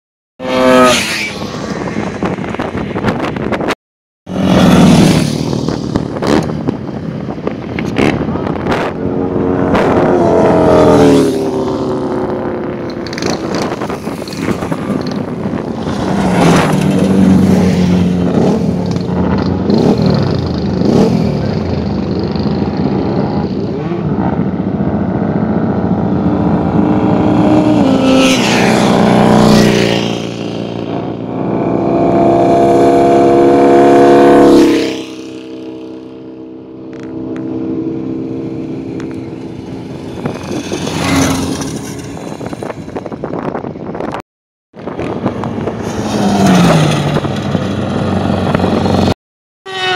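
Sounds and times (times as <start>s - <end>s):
racing motorcycles passing: 0.4s - 3.7s, 4.3s - 44.1s, 44.8s - 49.9s.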